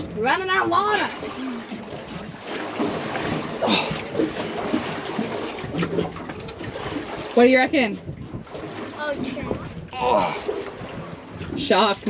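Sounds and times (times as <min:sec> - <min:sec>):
water washing against boat hull: 0:00.0 - 0:12.0
wind buffeting microphone: 0:00.0 - 0:12.0.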